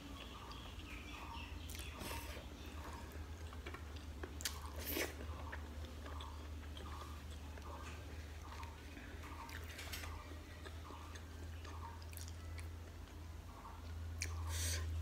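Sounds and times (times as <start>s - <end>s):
close chewing with wet mouth sounds: 0.0s - 15.0s
steady low hum: 0.0s - 15.0s.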